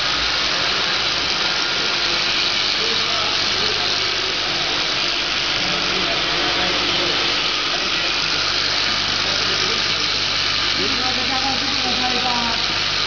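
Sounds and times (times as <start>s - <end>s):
filling machine whirring: 0.0s - 13.0s
machine hiss: 0.0s - 13.0s.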